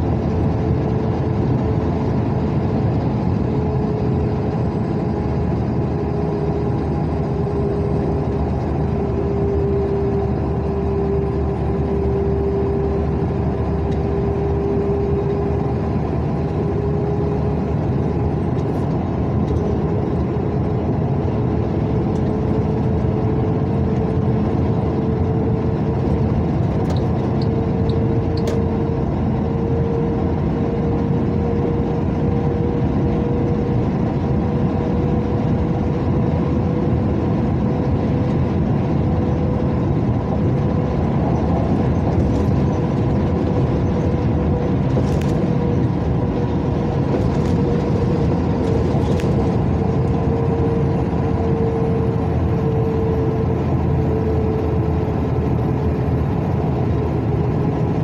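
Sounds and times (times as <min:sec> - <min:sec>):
car road noise from inside: 0:00.0 - 0:58.0.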